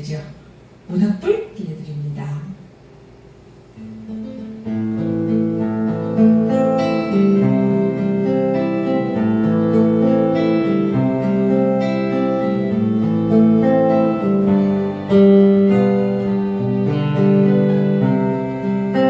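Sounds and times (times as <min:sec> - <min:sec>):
slow acoustic guitar: 0:03.0 - 0:19.0.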